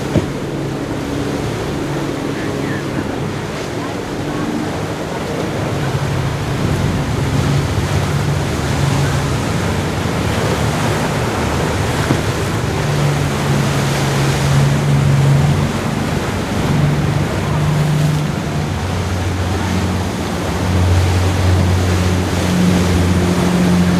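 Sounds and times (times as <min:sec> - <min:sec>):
low drone: 0:00.0 - 0:23.9
ocean surf washing: 0:00.0 - 0:23.9
wind buffeting microphone: 0:00.0 - 0:23.9.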